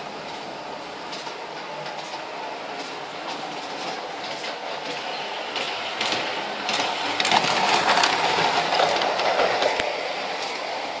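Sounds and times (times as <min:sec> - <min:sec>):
wheels clicking over rail joints: 0:01.1 - 0:10.6.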